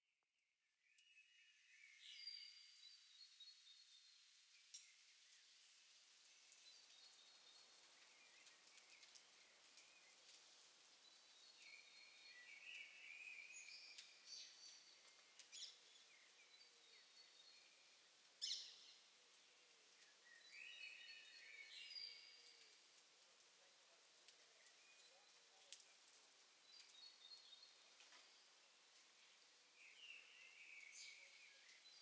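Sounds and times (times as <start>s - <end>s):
birdsong chirps and warbling: 0.9s - 22.9s, 23.7s - 32.0s
low background hiss: 0.9s - 32.0s.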